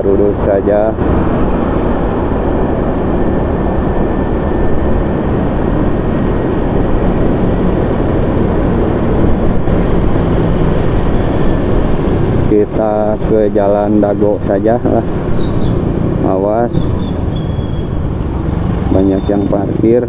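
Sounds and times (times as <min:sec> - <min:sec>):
motorcycle engine rumble: 0:00.0 - 0:20.0.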